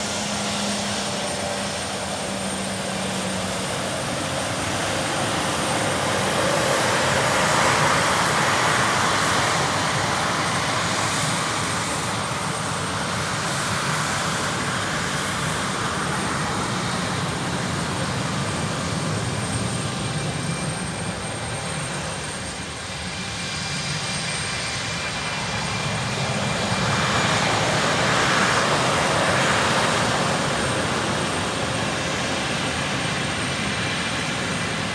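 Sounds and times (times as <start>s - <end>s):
jet engine rumble and whine: 0.0s - 34.9s.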